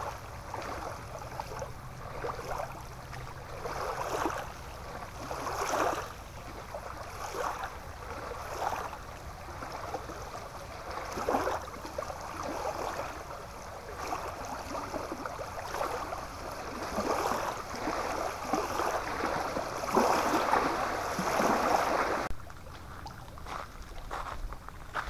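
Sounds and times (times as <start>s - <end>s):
small waves lapping on shore: 0.0s - 25.0s.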